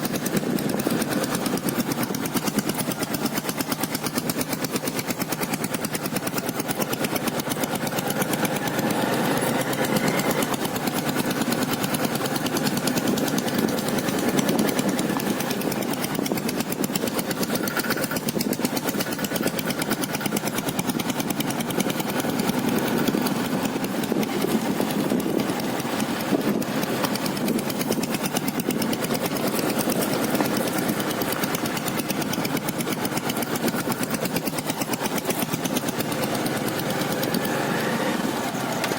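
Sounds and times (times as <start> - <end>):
motorcycle diesel engine running: 0.0 - 38.9.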